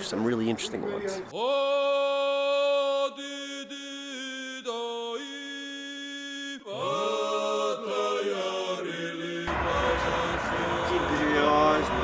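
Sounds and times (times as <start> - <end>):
unaccompanied choral singing: 1.3 - 12.0.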